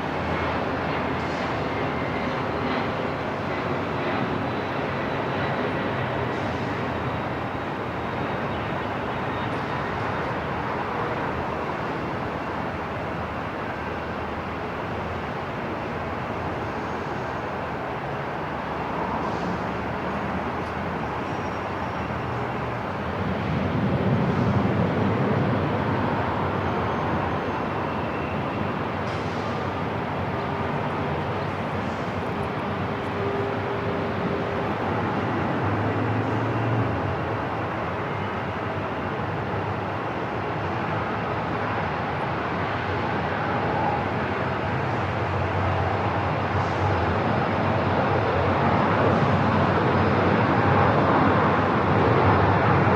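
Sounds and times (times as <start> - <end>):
airport rumble and hiss: 0.0 - 52.9.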